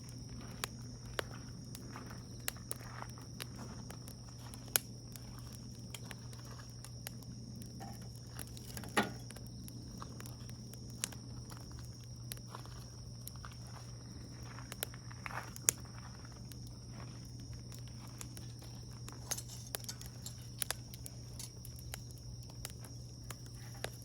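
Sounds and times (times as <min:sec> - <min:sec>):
campfire crackling and popping: 0:00.0 - 0:24.0
steady low hum: 0:00.0 - 0:24.0.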